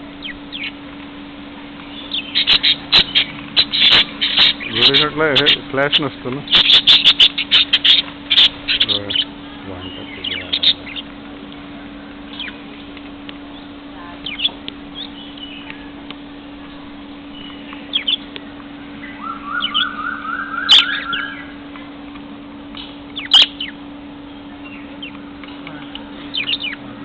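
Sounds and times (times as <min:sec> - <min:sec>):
lovebirds chirping: 0:00.0 - 0:00.9, 0:01.7 - 0:21.6, 0:22.7 - 0:27.0
steady low hum: 0:00.0 - 0:27.0
rising warbled bird notes: 0:01.9 - 0:11.2, 0:12.0 - 0:21.7, 0:22.8 - 0:27.0.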